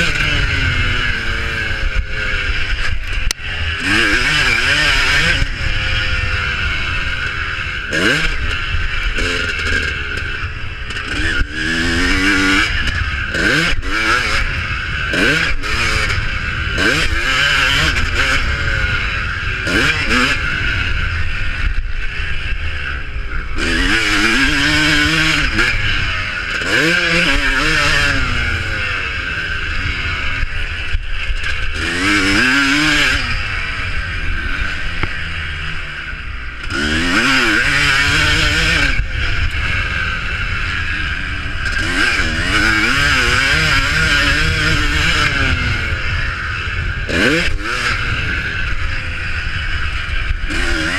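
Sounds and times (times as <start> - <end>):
drone of motorcycles: 0.0 - 50.9
motorcycles revving past: 0.0 - 50.9.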